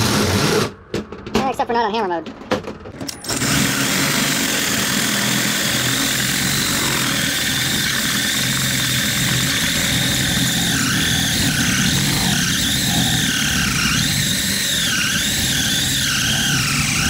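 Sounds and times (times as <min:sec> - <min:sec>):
cordless drill motor under load: 0:03.1 - 0:17.0
drill bit squealing: 0:03.1 - 0:17.0.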